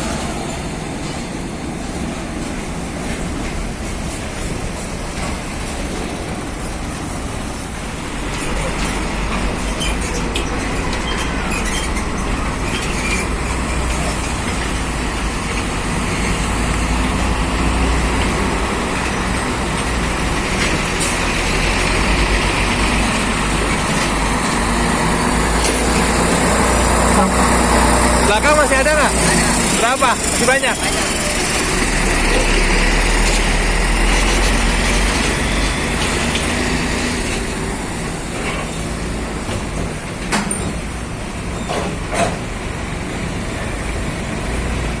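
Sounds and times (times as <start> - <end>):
truck diesel engine rumbling: 0.0 - 45.0.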